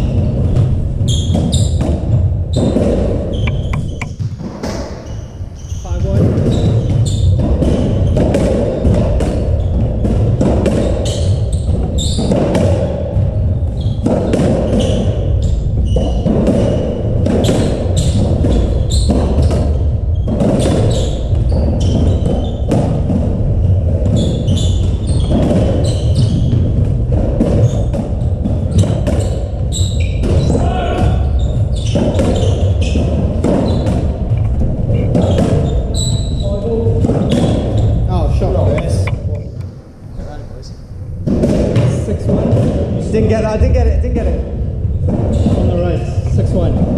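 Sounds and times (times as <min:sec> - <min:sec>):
shoes squeaking: 0:00.0 - 0:40.7, 0:44.7 - 0:46.9
rubber ball hit by rackets: 0:00.2 - 0:05.0, 0:06.1 - 0:38.0, 0:41.2 - 0:43.1.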